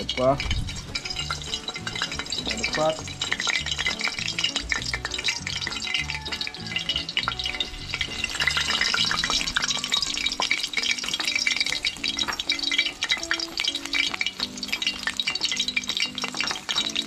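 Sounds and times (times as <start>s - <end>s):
background music with bass line: 0.0s - 17.0s
oil sizzling in frying pan: 0.0s - 17.0s.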